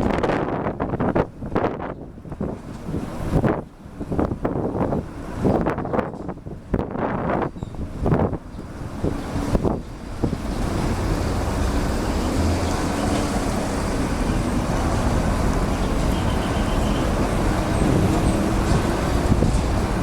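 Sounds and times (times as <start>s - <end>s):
jet airliner engines rumbling: 0.0s - 20.0s
wind noise: 0.0s - 20.0s.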